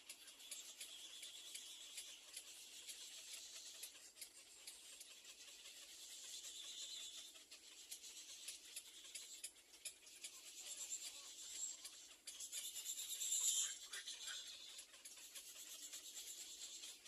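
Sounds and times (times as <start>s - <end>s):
nestling birds rustling and clicking: 0.0s - 17.0s.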